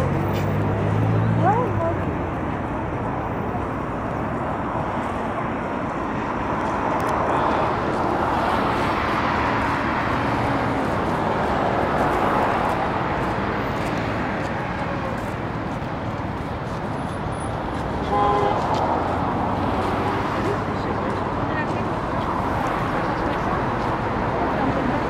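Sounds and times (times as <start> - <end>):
city road traffic: 0.0 - 25.0.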